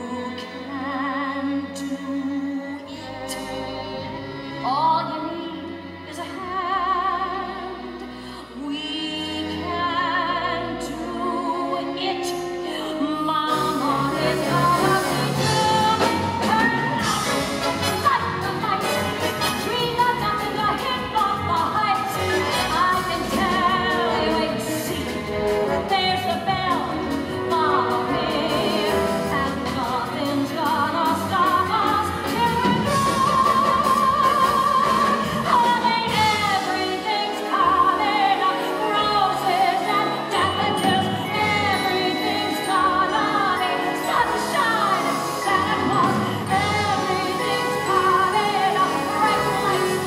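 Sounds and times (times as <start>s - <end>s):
brassy live orchestra: 0.0s - 50.0s
musical theatre singing: 0.0s - 50.0s.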